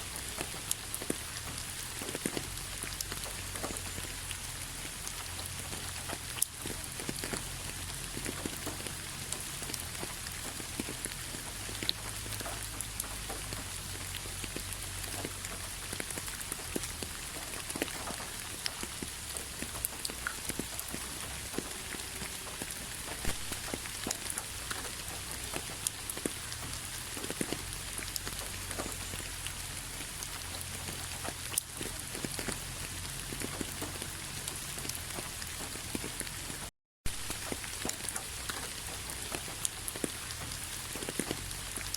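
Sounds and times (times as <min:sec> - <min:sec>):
raindrops ticking on surface: 0:00.0 - 0:41.9
steady rainfall hiss: 0:00.0 - 0:41.9.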